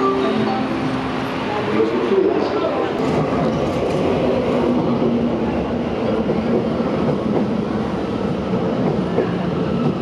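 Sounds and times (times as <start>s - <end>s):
electric train rolling rumble: 0.0s - 10.0s.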